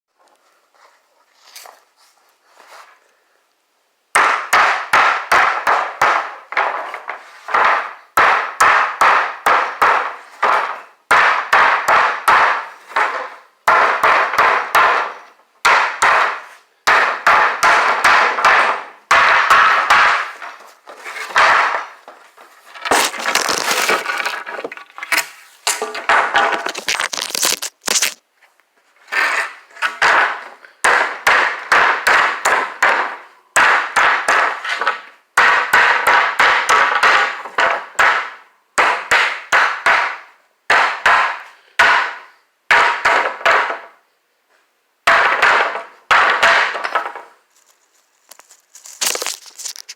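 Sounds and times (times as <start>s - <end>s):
hammer striking wooden planks: 4.1s - 28.2s, 29.1s - 44.0s, 45.0s - 47.4s.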